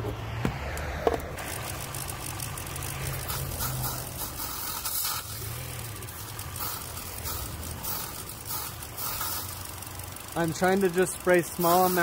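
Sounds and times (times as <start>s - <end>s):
car engine idling: 1.2s - 12.0s
aerosol spray hissing bursts: 1.4s - 12.0s.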